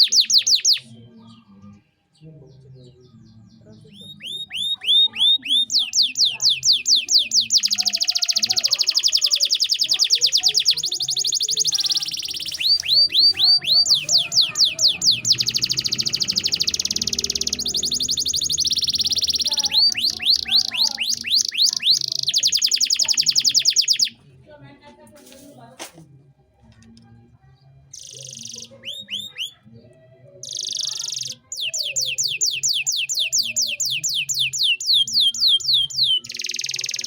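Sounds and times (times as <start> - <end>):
canary singing trills: 0.0 - 24.2, 27.4 - 37.0.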